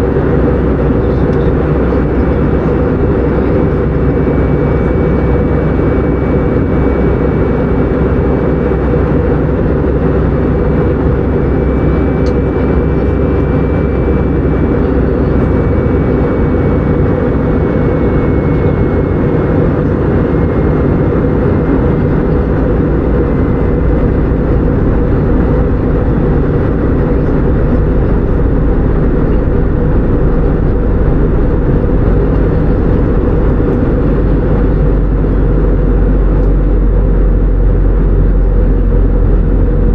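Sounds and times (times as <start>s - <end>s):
jet engines running: 0.0s - 39.9s
faint high whine: 0.6s - 39.9s.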